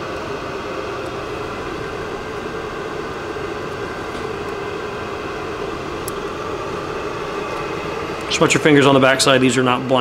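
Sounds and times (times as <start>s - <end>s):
mechanical drone: 0.0s - 10.0s.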